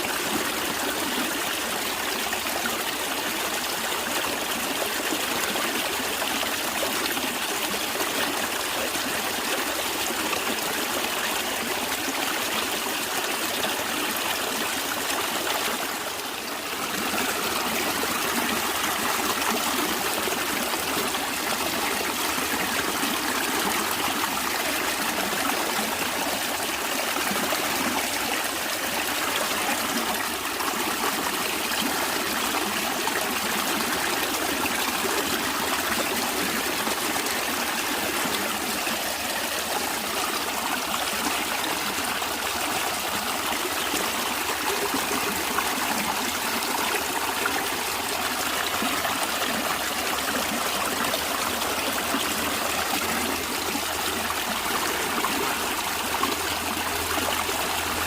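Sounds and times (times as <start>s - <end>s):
water flowing over stones: 0.0s - 58.0s.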